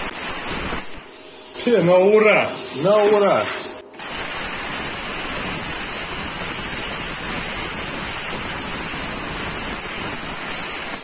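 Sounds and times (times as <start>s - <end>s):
plasma cutter hissing: 0.0s - 11.0s.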